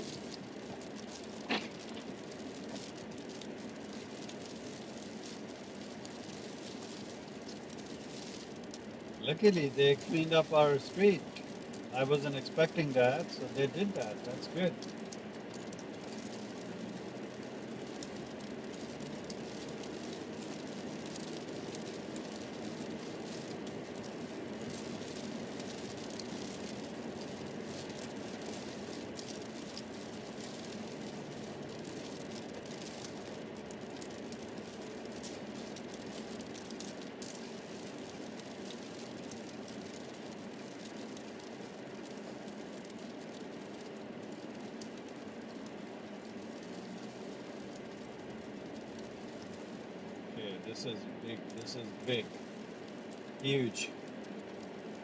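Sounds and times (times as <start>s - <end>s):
car engine and road noise: 0.0s - 55.0s
faint light rattles: 0.0s - 55.0s.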